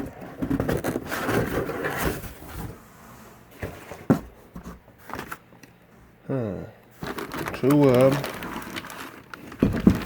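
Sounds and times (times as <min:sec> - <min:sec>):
cardboard rustling and scraping: 0:00.0 - 0:05.4, 0:07.0 - 0:10.0.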